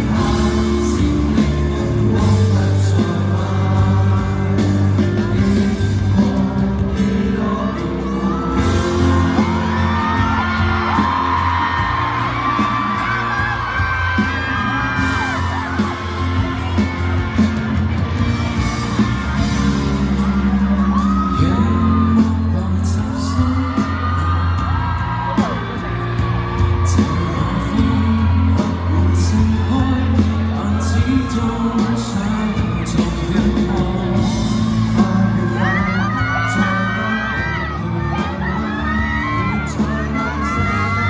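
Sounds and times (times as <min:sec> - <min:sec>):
audience screaming and whooping: 0:00.0 - 0:41.0
live pop band music: 0:00.0 - 0:41.0.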